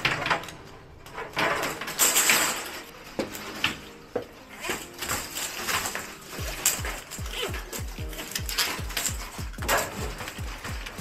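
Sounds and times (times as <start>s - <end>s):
plastic conduit rustling scrapes: 0.0s - 11.0s.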